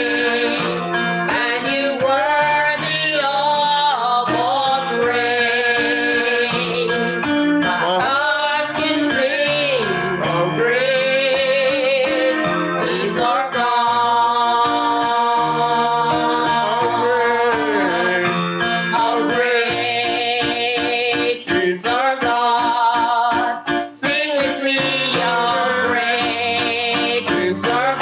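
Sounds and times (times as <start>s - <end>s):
instrumental accompaniment: 0.0s - 28.0s
person singing with vibrato: 0.0s - 28.0s.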